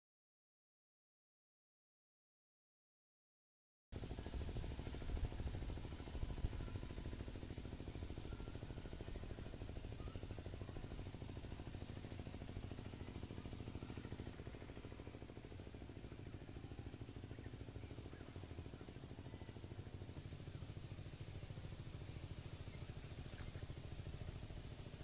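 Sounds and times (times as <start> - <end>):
engine running low rumble: 4.0 - 25.0.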